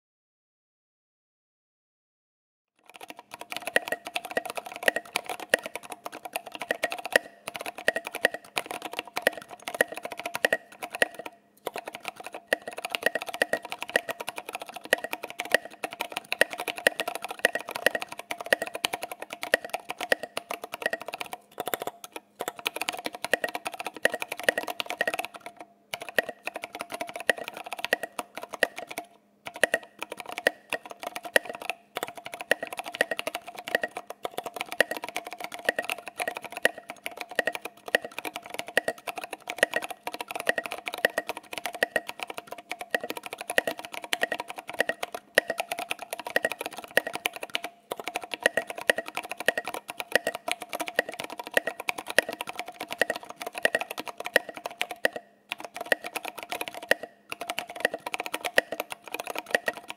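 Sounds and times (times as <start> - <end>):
mechanical keyboard typing: 2.8 - 59.9.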